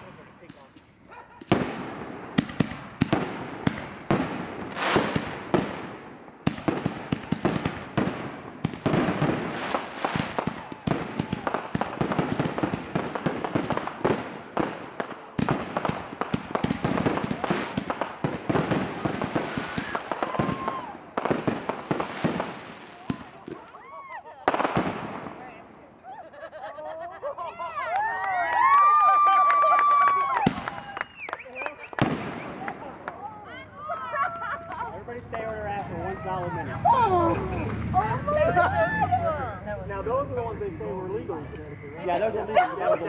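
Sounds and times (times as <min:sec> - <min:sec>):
fireworks bangs and crackles: 0:00.0 - 0:26.0, 0:28.0 - 0:33.6, 0:34.3 - 0:38.5.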